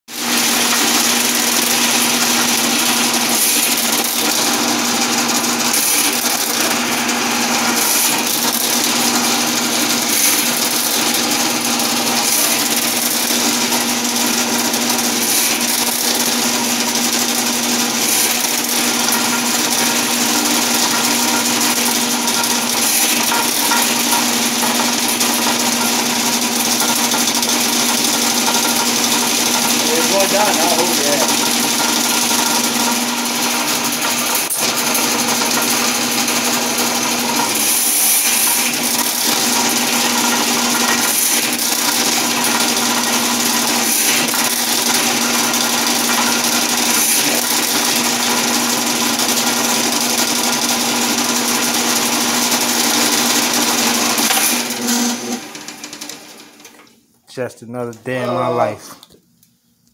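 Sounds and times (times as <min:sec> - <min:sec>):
drain cleaning machine motor hum: 0:00.1 - 0:56.9
steel cable rattling in drain: 0:00.2 - 0:37.6, 0:38.6 - 0:54.4.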